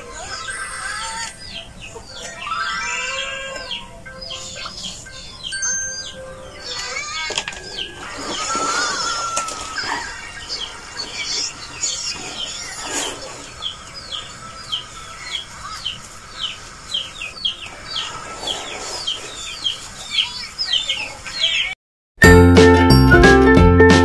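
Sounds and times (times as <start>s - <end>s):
birds chirping: 0.0s - 21.8s.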